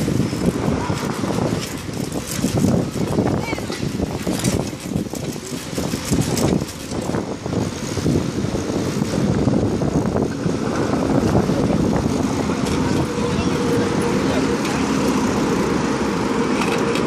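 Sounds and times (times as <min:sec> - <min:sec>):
bicycle rumbling on road: 0:00.0 - 0:17.0
traffic: 0:00.0 - 0:17.0
wind noise: 0:00.0 - 0:17.0.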